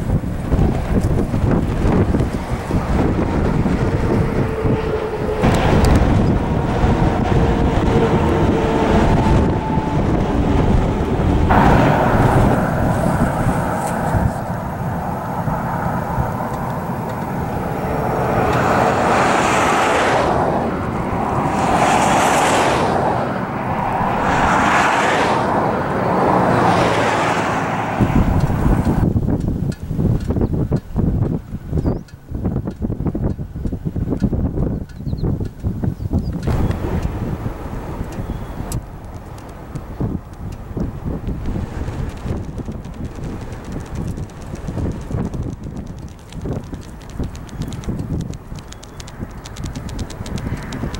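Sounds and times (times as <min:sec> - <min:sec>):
highway traffic passing: 0:00.0 - 0:50.9
wind on microphone: 0:00.0 - 0:50.9.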